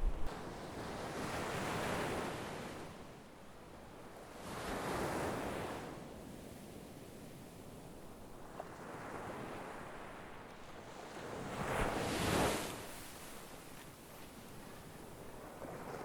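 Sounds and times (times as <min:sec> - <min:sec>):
sea waves surging and washing back: 0:00.0 - 0:06.5, 0:07.8 - 0:16.0.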